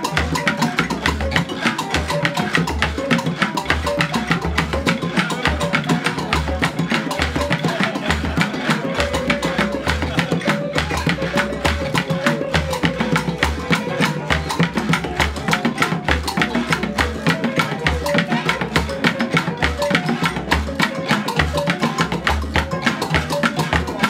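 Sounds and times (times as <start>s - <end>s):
percussion ensemble groove: 0.0s - 24.0s.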